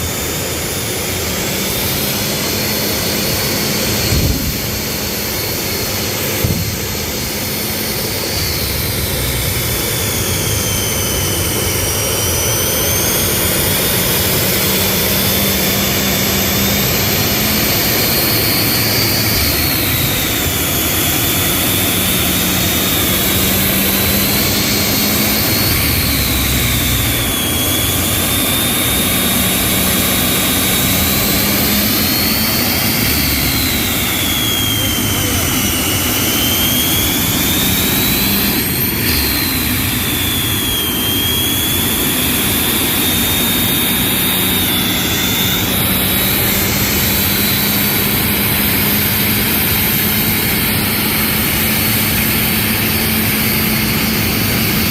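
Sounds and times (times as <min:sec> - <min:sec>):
turbine engine roar and whine: 0:00.0 - 0:54.9.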